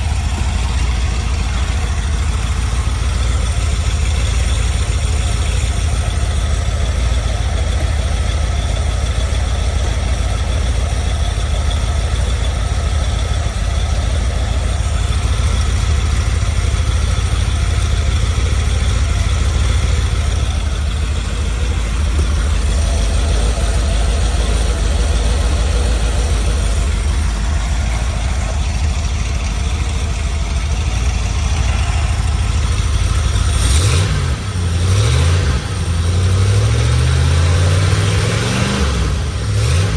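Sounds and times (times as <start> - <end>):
engine idling steadily: 0.0 - 39.9.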